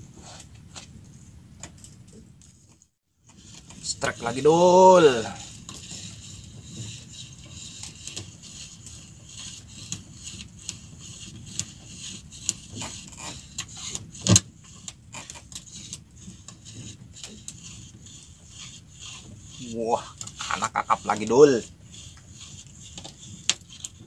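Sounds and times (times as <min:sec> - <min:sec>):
fishing line scraping against hull: 0:00.1 - 0:01.2, 0:01.9 - 0:24.0.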